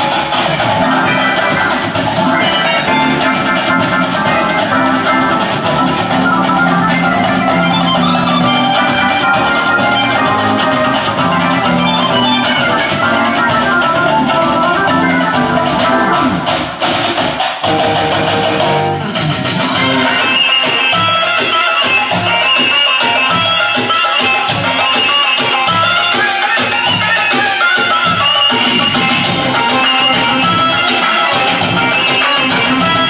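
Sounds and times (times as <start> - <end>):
keyboard melody with backing band: 0.0 - 33.0.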